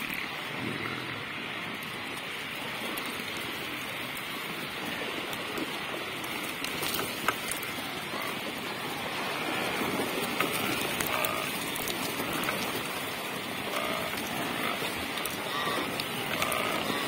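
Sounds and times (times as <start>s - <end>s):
animals splashing through water: 0.0s - 17.0s.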